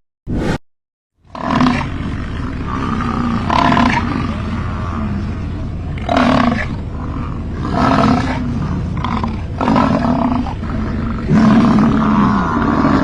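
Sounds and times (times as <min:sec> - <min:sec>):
bison bellowing: 0:01.3 - 0:13.0.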